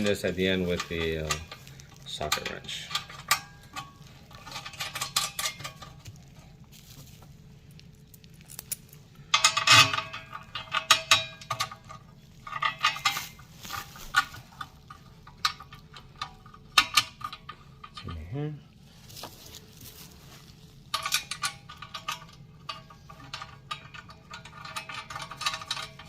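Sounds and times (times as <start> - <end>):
small metal parts clinking: 0.0 - 7.1, 8.0 - 18.1, 20.9 - 26.0.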